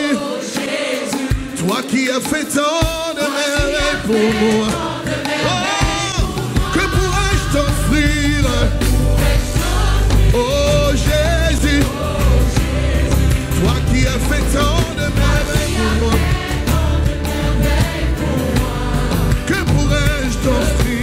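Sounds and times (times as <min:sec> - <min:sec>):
man singing lead vocals: 0:00.0 - 0:00.4, 0:01.1 - 0:18.7, 0:19.3 - 0:21.0
backing singers: 0:00.0 - 0:21.0
band playing: 0:00.0 - 0:21.0.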